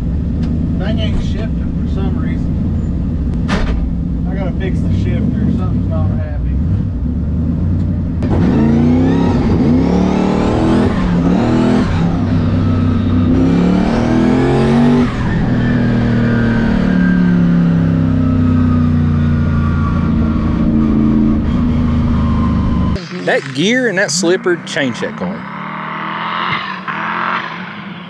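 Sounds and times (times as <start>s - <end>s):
drag car engine accelerating: 4.2s - 28.0s.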